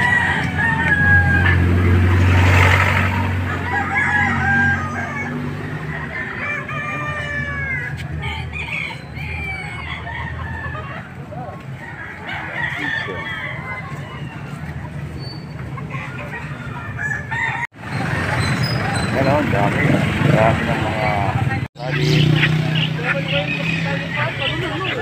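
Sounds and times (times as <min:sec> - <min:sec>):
roosters crowing: 0:00.0 - 0:25.0
chickens clucking: 0:03.4 - 0:25.0.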